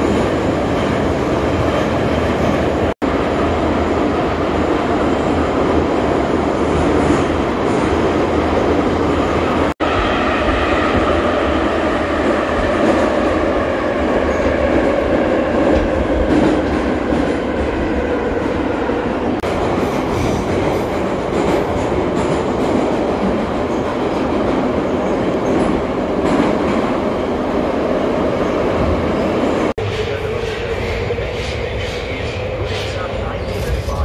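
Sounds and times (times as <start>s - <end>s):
metro car wheels rumbling on track: 0.0s - 34.0s.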